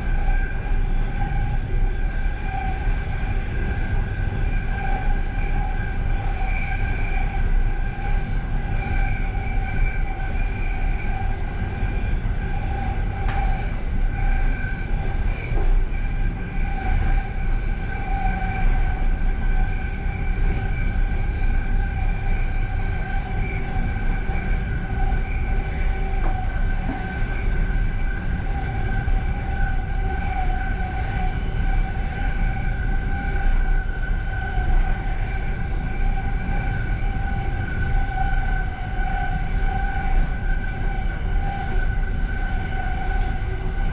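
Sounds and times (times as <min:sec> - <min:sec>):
train high whine: 0:00.0 - 0:43.9
train rumble: 0:00.0 - 0:43.9.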